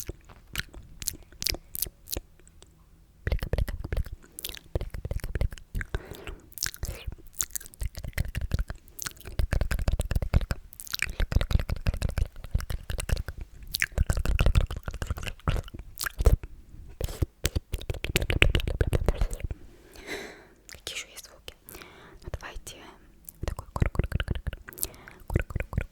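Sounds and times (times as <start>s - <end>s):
wet mouth clicks and lip pops: 0.0s - 19.6s, 20.6s - 22.6s, 23.2s - 25.9s.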